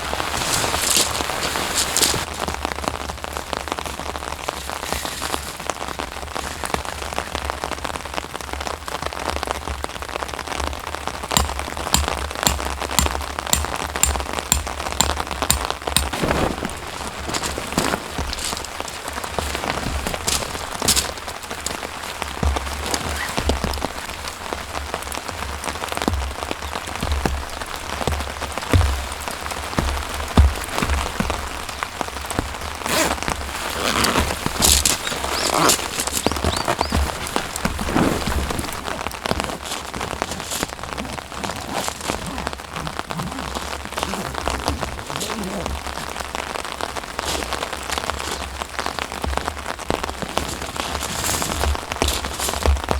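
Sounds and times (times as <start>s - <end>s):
heavy raindrops striking close by: 0.0s - 52.9s
steady rain falling: 0.0s - 52.9s.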